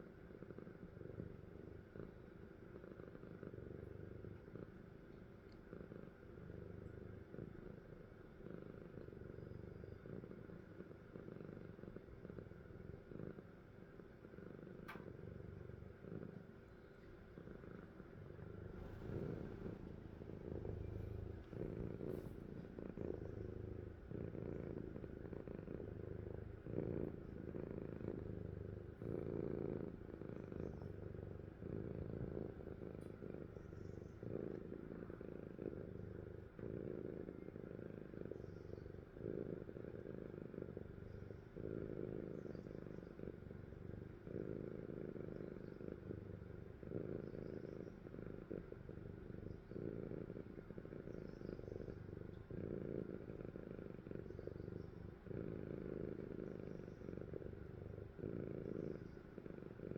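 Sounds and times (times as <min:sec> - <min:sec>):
cat snoring softly: 0:00.0 - 0:59.9.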